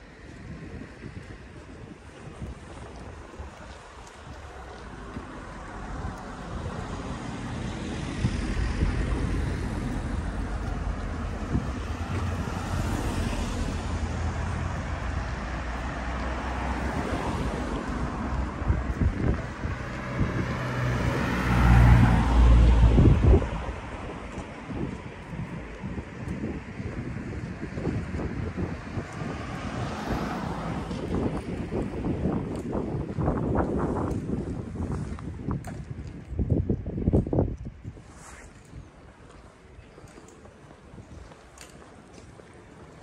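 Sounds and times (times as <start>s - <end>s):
street traffic rumble: 0.0s - 43.0s.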